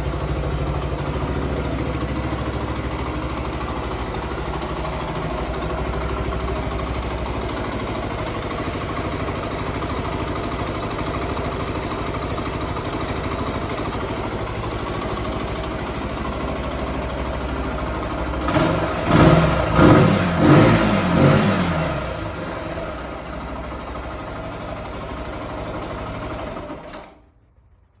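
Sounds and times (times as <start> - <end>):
motorcycle engine blips: 0.0 - 26.7
motorcycle engine idling: 0.0 - 28.0.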